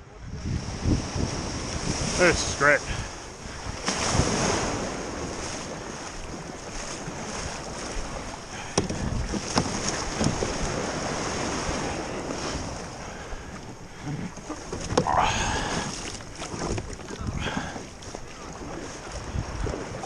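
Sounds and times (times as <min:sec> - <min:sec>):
wind on microphone: 0:00.0 - 0:20.0
small surf breaking: 0:00.6 - 0:20.0.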